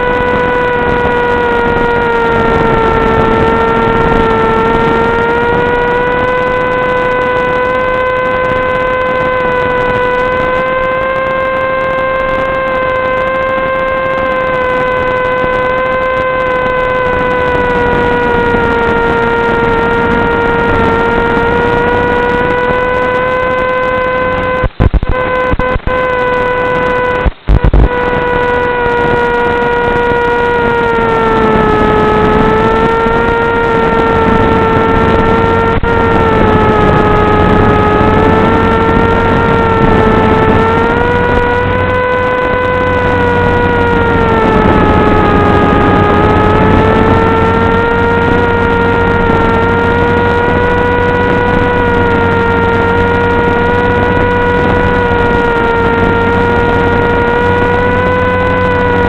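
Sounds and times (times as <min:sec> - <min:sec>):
electric motor and propeller buzzing: 0:00.0 - 0:59.0.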